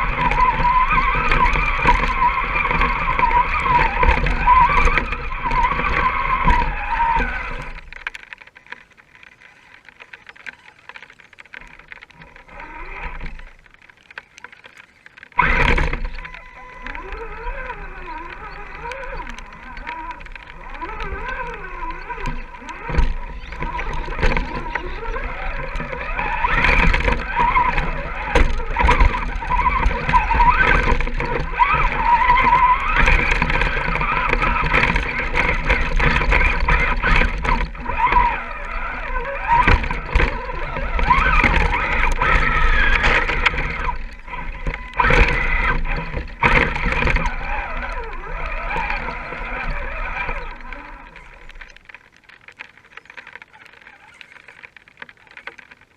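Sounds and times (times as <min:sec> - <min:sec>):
electric motor whining: 0:00.0 - 0:52.3.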